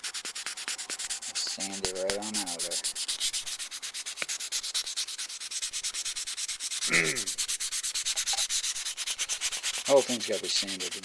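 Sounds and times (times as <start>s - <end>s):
sandpaper rubbing on plastic: 0.0s - 11.0s.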